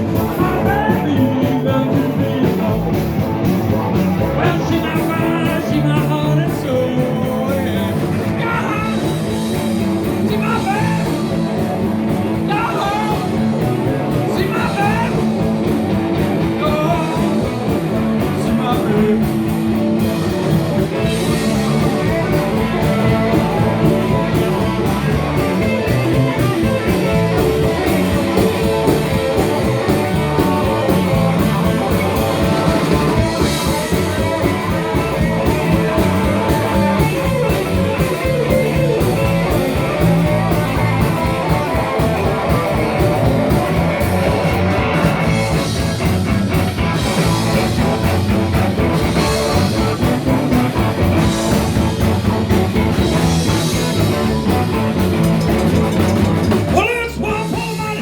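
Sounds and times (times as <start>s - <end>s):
rock band guitar: 0.0s - 58.0s
steady drum beat: 0.0s - 58.0s.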